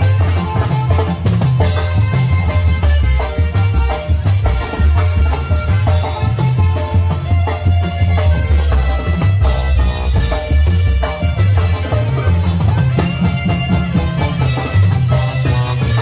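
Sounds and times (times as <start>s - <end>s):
bass drum and snare beat: 0.0s - 16.0s
saxophone melody: 0.0s - 16.0s.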